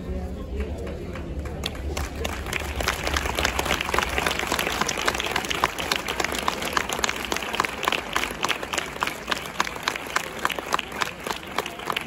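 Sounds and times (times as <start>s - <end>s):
crowd applauding: 0.6s - 12.0s.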